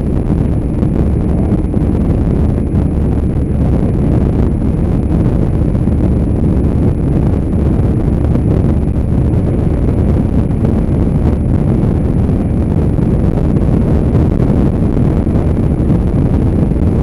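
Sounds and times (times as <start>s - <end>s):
motorcycle engine: 0.0s - 17.0s
road noise: 0.0s - 17.0s
wind buffeting microphone: 0.0s - 17.0s.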